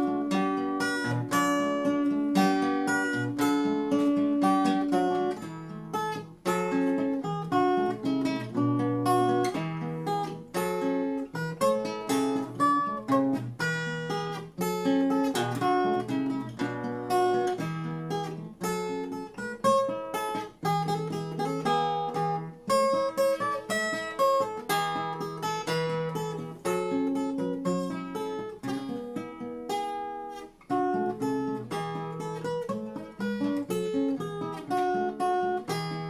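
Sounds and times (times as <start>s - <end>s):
finger-picked acoustic guitar: 0.0s - 36.0s.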